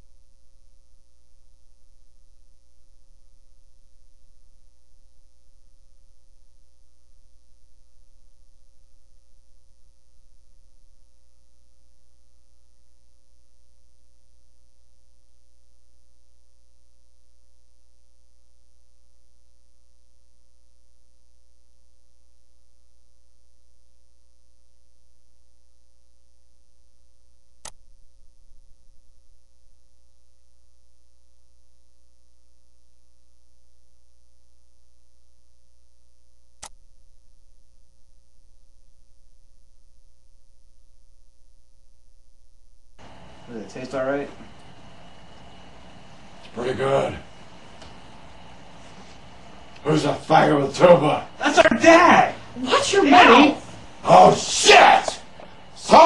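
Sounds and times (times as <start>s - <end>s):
faint steady tones: 0.0s - 56.0s
steady electrical hum: 0.0s - 56.0s.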